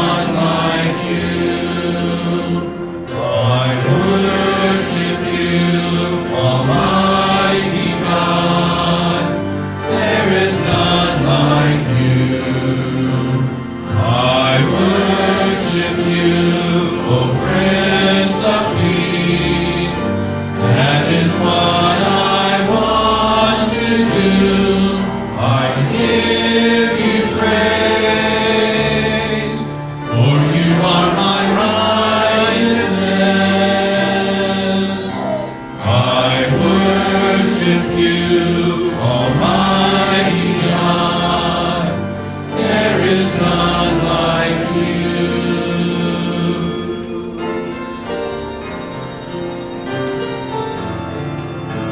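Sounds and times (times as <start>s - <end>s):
choir singing a hymn: 0.0s - 51.9s.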